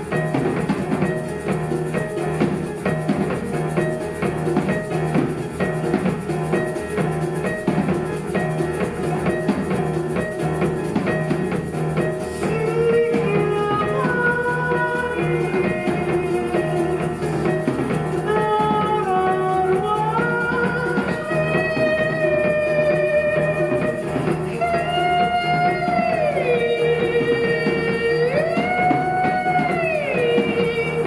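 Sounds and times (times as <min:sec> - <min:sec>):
rattling percussion: 0:00.0 - 0:31.0
strings: 0:00.0 - 0:31.0.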